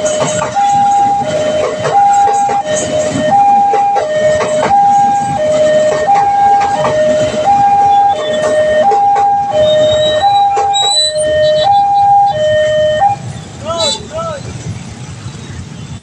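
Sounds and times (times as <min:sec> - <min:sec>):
level crossing two-tone alarm: 0:00.0 - 0:13.2.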